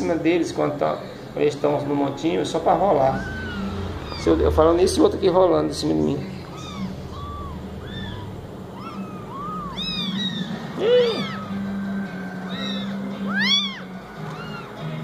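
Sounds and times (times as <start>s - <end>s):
kittens mewing: 1.4s - 15.0s.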